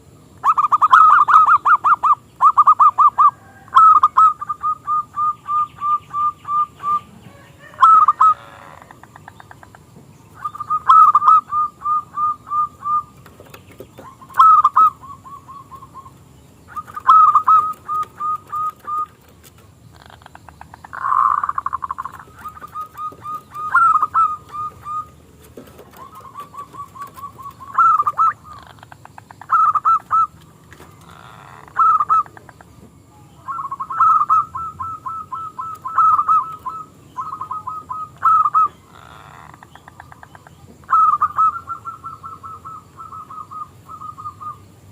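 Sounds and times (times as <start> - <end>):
dove cooing: 0.4 - 9.8, 10.4 - 44.6.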